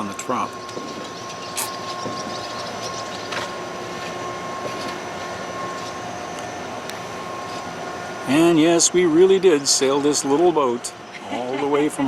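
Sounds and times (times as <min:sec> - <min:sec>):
constant rushing noise: 0:00.0 - 0:12.0
machinery droning and whining: 0:00.0 - 0:12.0.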